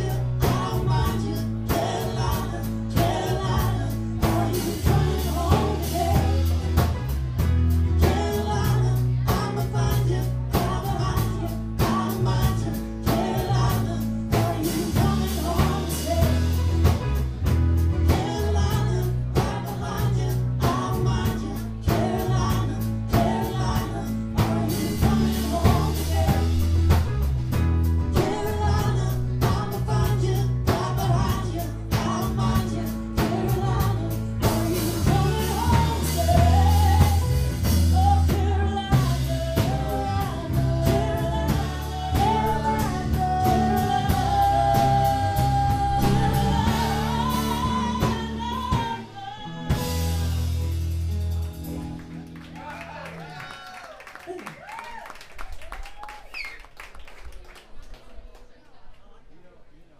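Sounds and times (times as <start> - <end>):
person singing: 0.0 - 27.3, 27.9 - 50.8
live band playing: 0.0 - 53.2.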